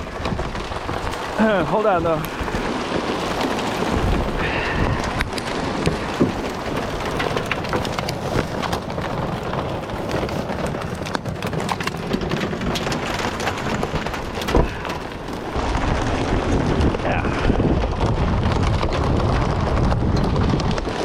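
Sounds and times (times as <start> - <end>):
rain on hard surfaces: 0.0 - 21.0.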